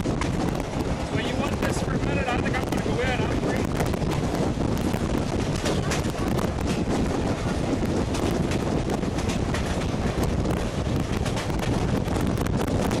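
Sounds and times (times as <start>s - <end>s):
train rumbling at speed: 0.0s - 13.0s
wind buffeting microphone: 0.0s - 13.0s.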